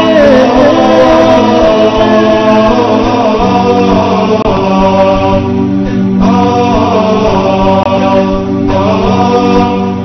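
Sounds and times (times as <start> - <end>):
chanted vocals: 0.0 - 10.0
steady low beat: 0.0 - 10.0.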